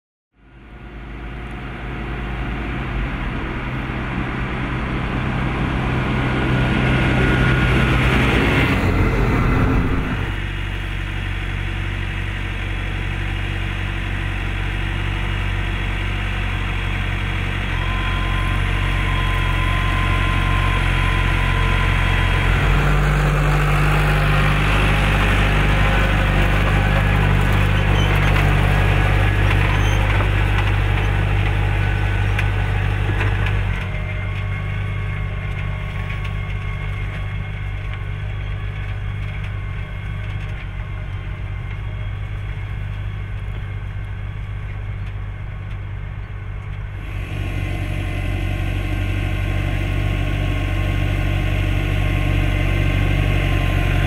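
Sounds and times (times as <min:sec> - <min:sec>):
tractor diesel engine under load: 0:00.4 - 0:54.0.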